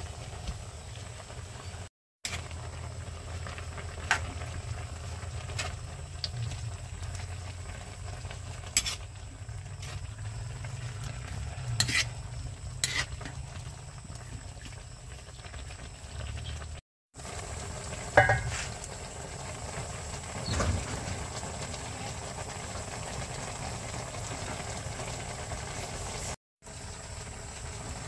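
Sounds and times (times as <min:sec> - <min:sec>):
light steady sizzle: 0:00.0 - 0:28.0.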